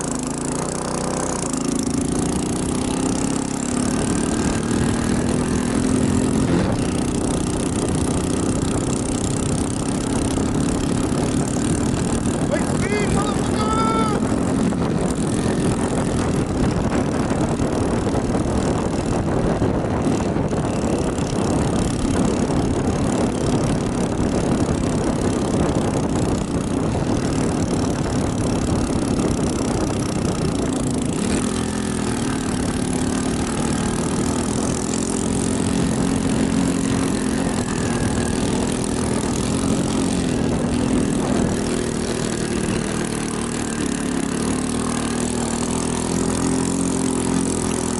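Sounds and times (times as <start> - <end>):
road noise: 0.0 - 47.9
rushing wind: 0.0 - 47.9
vehicle engine running: 0.0 - 47.9.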